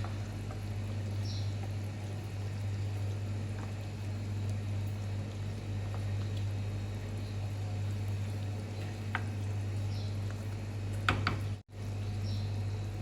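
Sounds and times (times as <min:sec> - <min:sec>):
stove burner low hum: 0:00.0 - 0:13.0.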